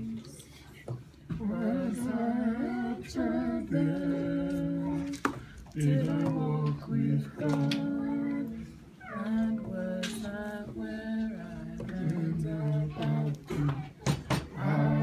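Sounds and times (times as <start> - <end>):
woman and man singing: 1.3 - 15.0.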